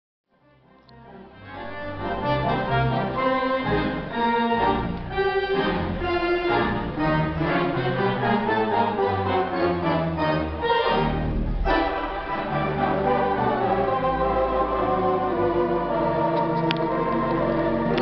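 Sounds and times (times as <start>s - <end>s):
theatre pipe organ playing: 0.4s - 18.0s.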